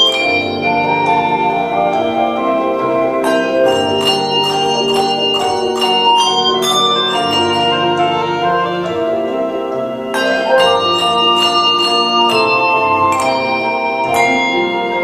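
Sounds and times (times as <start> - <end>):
handbells ringing a hymn: 0.0 - 15.0.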